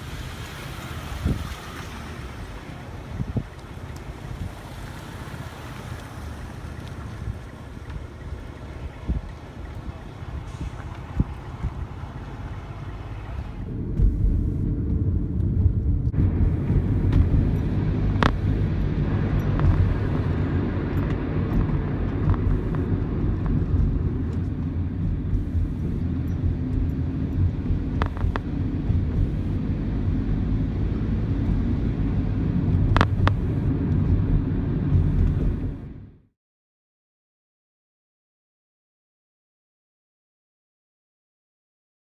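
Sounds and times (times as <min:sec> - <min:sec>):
low vehicle rumble: 0:00.0 - 0:36.3.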